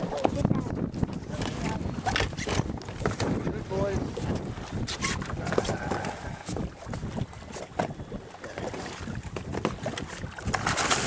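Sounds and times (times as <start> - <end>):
water lapping against boat: 0.0 - 11.0
wind buffeting microphone: 0.0 - 11.0.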